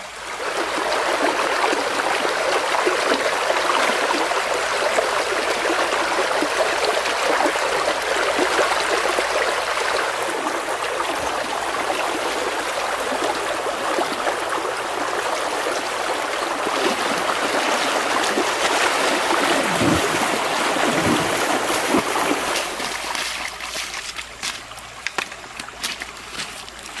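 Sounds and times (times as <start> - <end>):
river water flowing: 0.0 - 27.0
small water splashes: 0.1 - 27.0.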